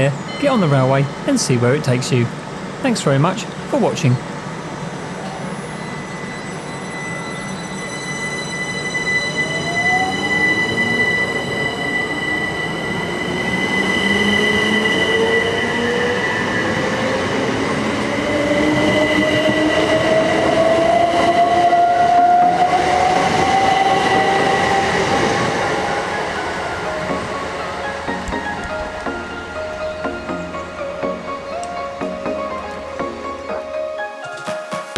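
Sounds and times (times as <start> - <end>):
electric train motor whine: 4.3 - 33.9.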